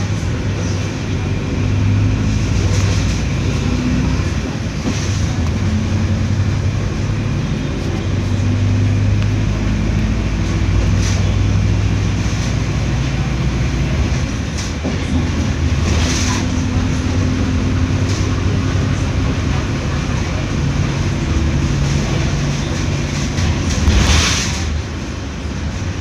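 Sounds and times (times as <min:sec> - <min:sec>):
bus diesel engine drone: 0:00.0 - 0:26.0
road noise: 0:00.0 - 0:26.0.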